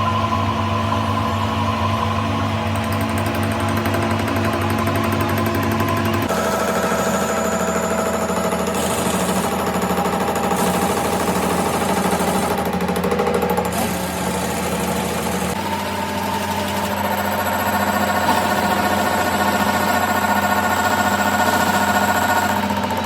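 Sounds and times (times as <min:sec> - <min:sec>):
workshop machine rhythmic chatter: 0:00.0 - 0:23.0.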